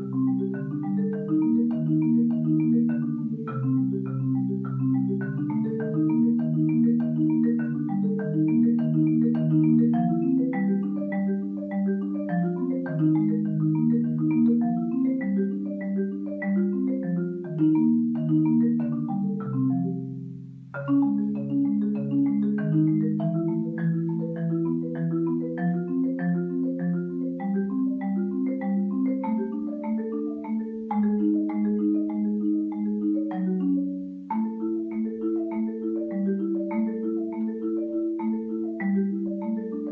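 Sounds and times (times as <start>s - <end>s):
solo marimba: 0.0s - 39.9s.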